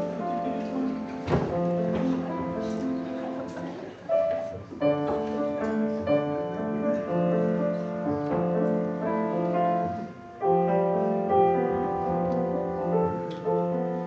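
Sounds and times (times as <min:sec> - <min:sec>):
piano playing slow chords: 0:00.0 - 0:14.0.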